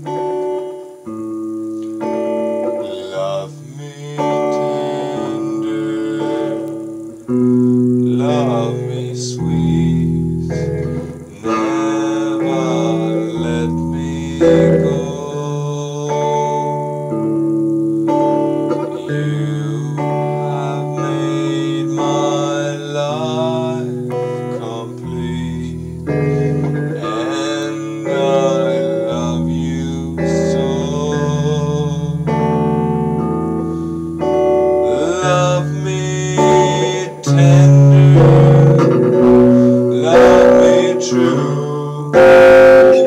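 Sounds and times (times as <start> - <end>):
guitar playing: 0.0 - 43.0
man singing long notes: 0.0 - 43.0.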